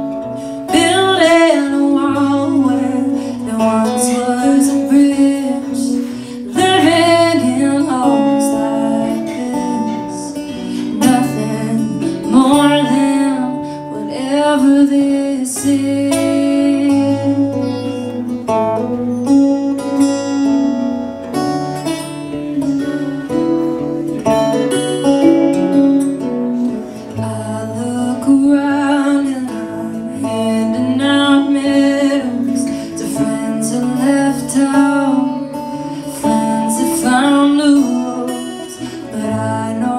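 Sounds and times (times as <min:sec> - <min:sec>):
acoustic guitar: 0:00.0 - 0:39.9
woman singing: 0:00.0 - 0:39.9.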